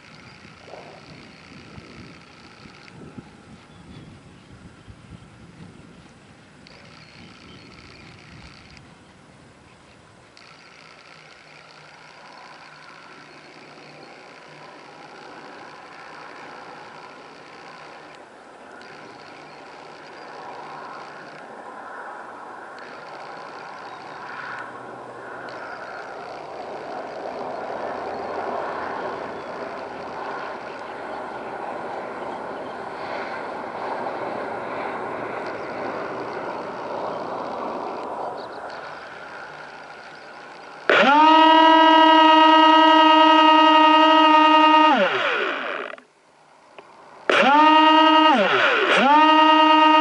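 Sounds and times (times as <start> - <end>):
electric motor whine: 0.0 - 4.0, 6.6 - 8.9, 10.3 - 32.0, 34.0 - 50.0.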